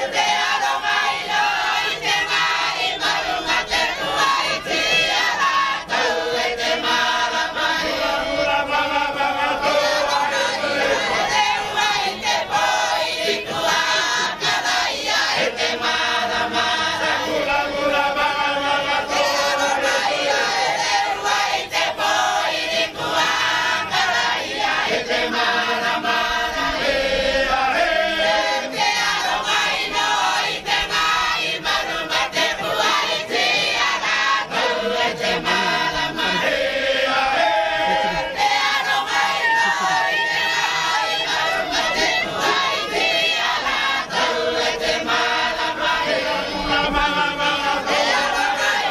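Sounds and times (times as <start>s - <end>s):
group singing in harmony: 0.0s - 48.9s.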